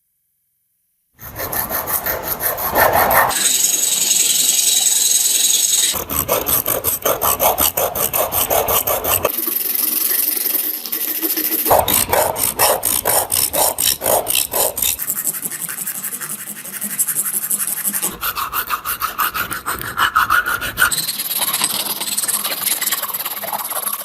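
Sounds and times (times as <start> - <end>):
abrasive rubbing strokes by hand: 1.2 - 9.3, 11.5 - 24.0.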